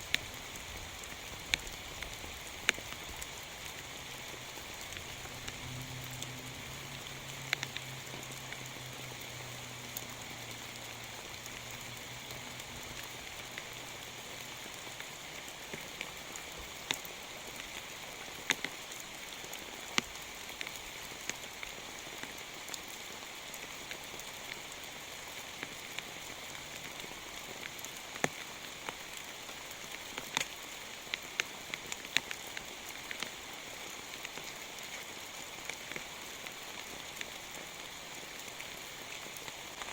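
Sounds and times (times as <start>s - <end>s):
heavy rain falling: 0.0s - 39.9s
raindrops ticking on a surface: 0.0s - 39.9s.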